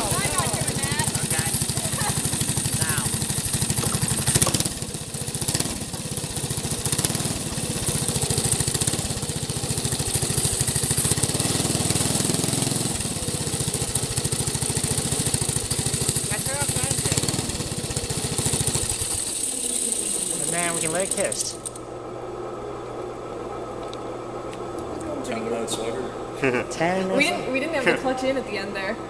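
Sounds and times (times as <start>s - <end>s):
small engine running steadily: 0.0s - 29.0s.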